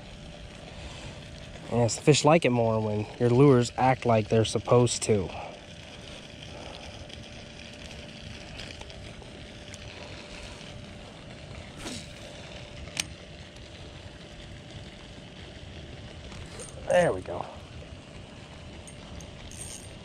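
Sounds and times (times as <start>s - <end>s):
low outdoor background noise: 0.0s - 20.0s.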